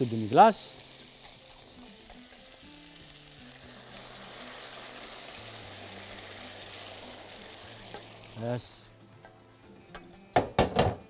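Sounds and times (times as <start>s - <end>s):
frying pan sizzling: 0.0s - 8.9s.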